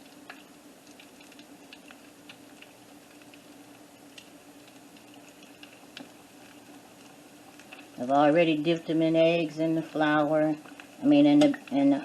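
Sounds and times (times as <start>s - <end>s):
frying oil sizzling and popping: 0.0s - 12.0s
low steady hum: 0.0s - 12.0s.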